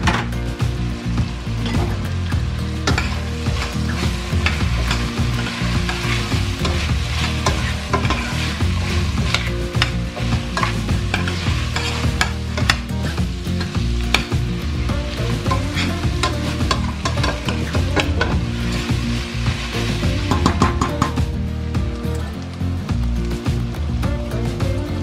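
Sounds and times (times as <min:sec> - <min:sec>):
vegetables sizzling in a pot: 0:00.0 - 0:25.0.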